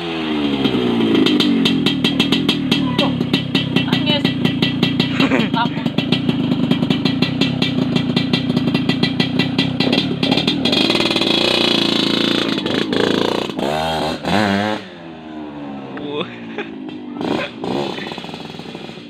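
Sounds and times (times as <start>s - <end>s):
two-stroke motorcycle engine: 0.0s - 19.0s.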